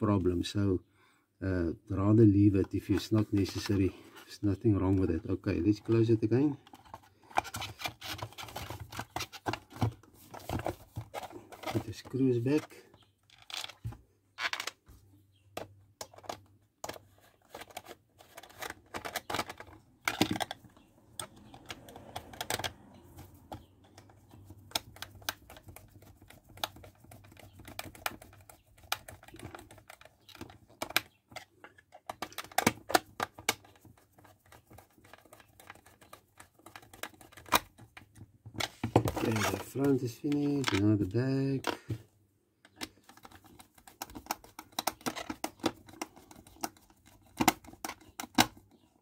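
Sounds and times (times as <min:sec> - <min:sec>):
plastic casing being handled: 0:02.3 - 0:49.0.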